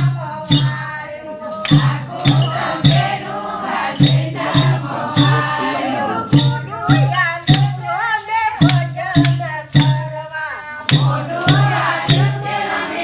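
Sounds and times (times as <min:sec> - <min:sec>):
women singing devotional song: 0:00.0 - 0:13.0
steady drum beat: 0:01.6 - 0:10.2, 0:10.8 - 0:13.0.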